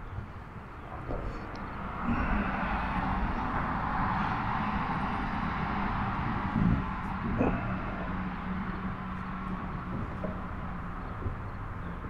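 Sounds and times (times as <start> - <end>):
water rushing wash: 0.8 - 11.0.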